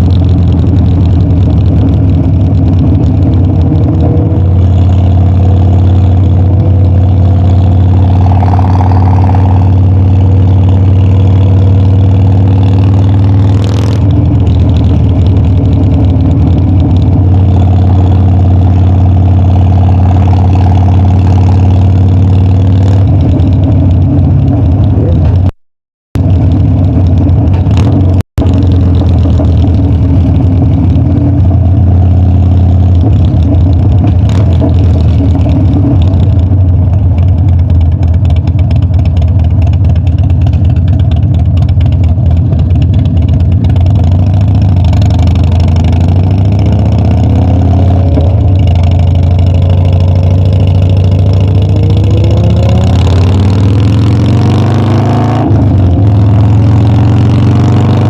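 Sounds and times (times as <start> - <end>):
motorcycle engine running: 0.0 - 25.6, 26.2 - 58.0.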